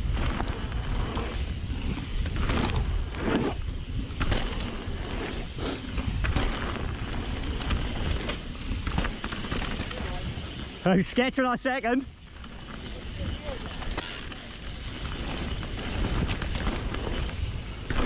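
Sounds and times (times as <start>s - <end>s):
bike rattling over bumps: 0.0s - 18.0s
wind and tyre rumble: 0.0s - 18.0s.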